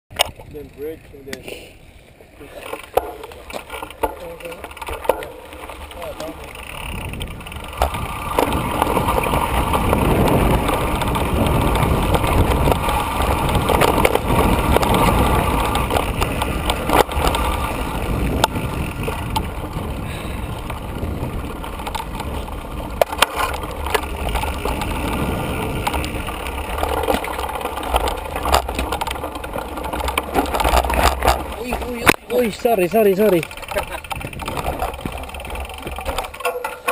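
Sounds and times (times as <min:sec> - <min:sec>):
bike rattling and knocking: 0:00.1 - 0:01.6, 0:02.4 - 0:36.9
tyres rolling over gravel: 0:00.2 - 0:36.9
wind rushing over microphone: 0:06.0 - 0:36.4.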